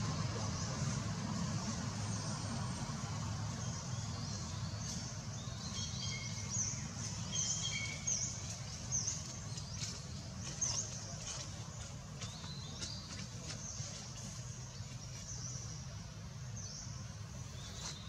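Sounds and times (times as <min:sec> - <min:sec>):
birds chirping: 0:00.0 - 0:18.0
low outdoor background rumble: 0:00.0 - 0:18.0.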